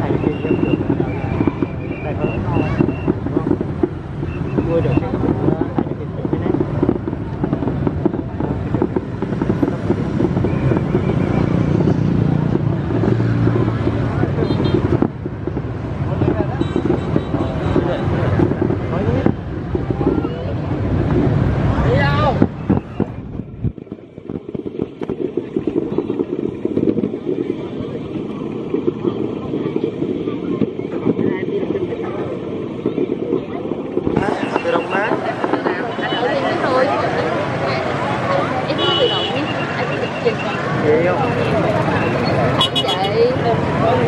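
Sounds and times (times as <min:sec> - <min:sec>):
steady low rumble: 0:00.0 - 0:39.2
distant fireworks pops and crackles: 0:00.0 - 0:44.0.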